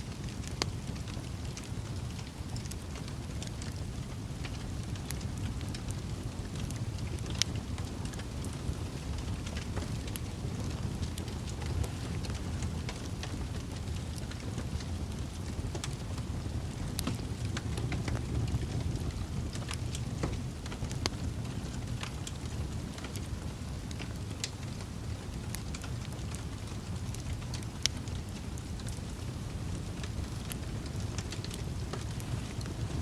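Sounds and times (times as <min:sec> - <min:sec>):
fire crackles and pops: 0:00.0 - 0:33.0
wood fire burning: 0:00.0 - 0:33.0.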